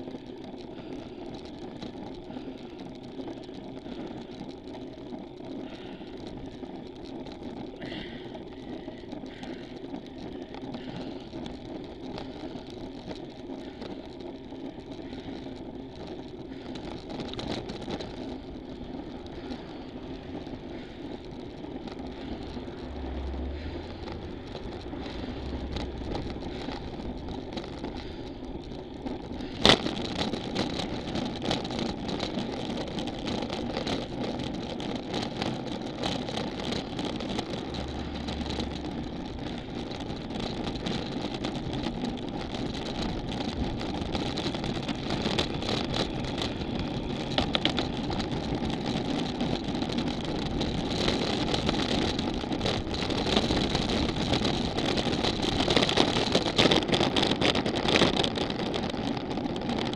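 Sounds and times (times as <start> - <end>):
road bike riding noise: 0.0 - 59.9.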